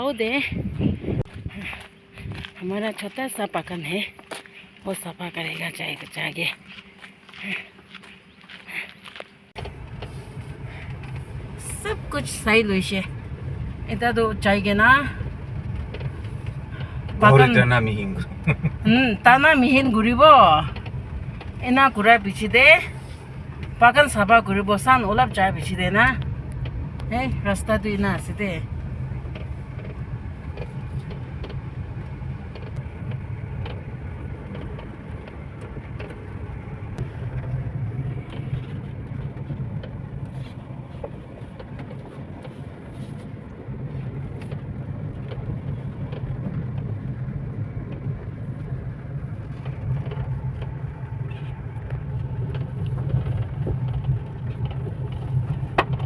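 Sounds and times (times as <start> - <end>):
road noise: 0.0 - 56.0
vehicle engine drone: 0.0 - 56.0.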